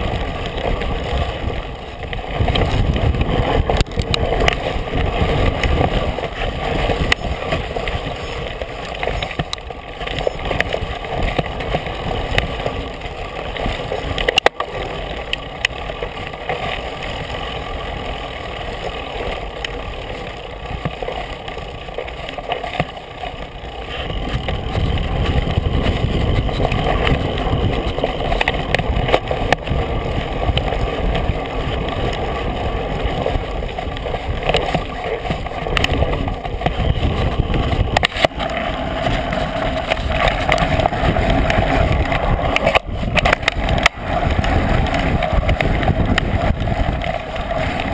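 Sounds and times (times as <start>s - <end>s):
bike knocking and rattling: 0.0s - 47.9s
mountain bike rolling over dirt: 0.0s - 47.9s
wind buffeting microphone: 0.0s - 47.9s.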